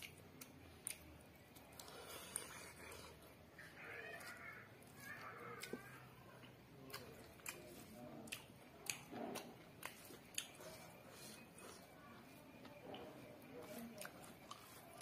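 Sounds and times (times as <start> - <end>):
chewing with wet mouth clicks: 0.0 - 15.0
fingers squishing rice: 0.0 - 15.0.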